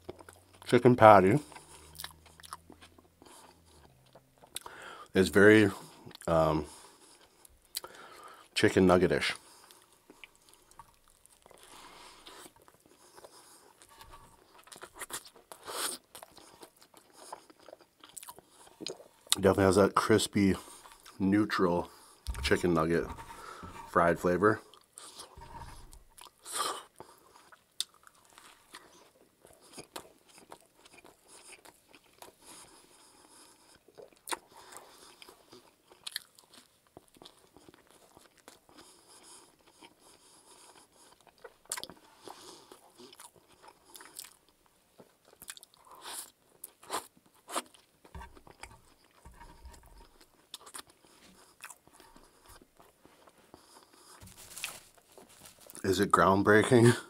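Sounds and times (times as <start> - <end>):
chewing and crunching: 0.0 - 5.1, 5.7 - 8.5, 9.3 - 19.5, 20.5 - 57.0.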